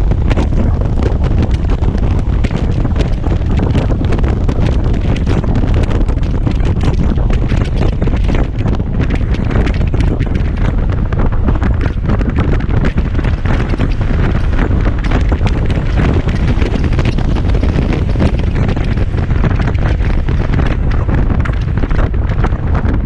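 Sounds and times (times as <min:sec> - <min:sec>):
scooter engine: 0:00.0 - 0:22.3
road noise: 0:00.0 - 0:23.0
wind buffeting microphone: 0:00.0 - 0:23.0.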